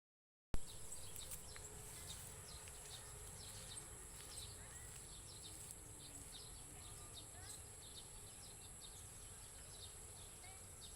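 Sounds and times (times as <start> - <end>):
bird chirps: 0.6 - 10.9
insect drone: 0.6 - 10.9.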